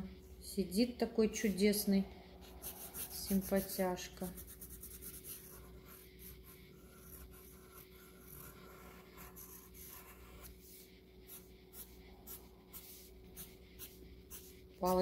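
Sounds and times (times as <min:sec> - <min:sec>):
pencil scratching on paper: 0:01.4 - 0:15.0.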